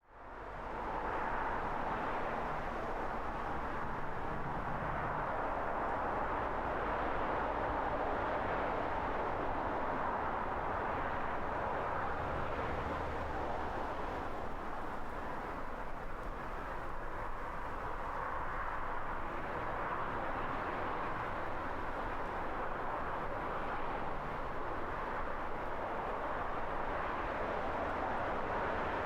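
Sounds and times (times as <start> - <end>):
cars driving on road: 0.1 - 29.0.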